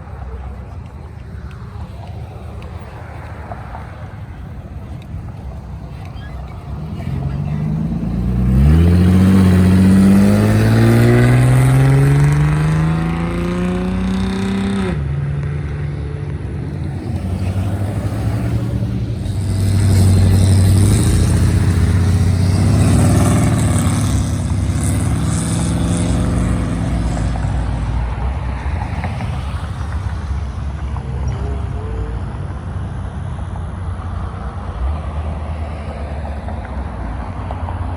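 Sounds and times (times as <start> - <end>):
car engine accelerating: 0.0 - 37.9
loud vehicle engine: 0.0 - 37.9.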